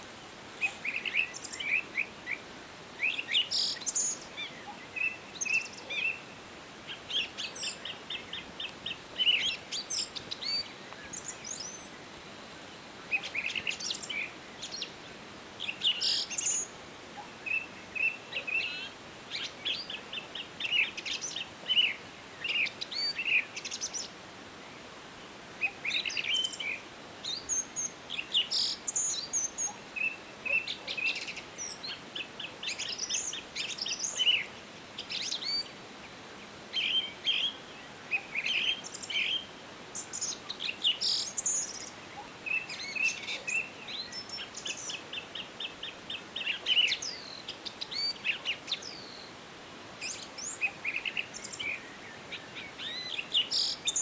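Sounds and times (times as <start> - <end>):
faint forest ambience hiss: 0.0 - 54.0
songbirds singing and chirping: 0.0 - 54.0.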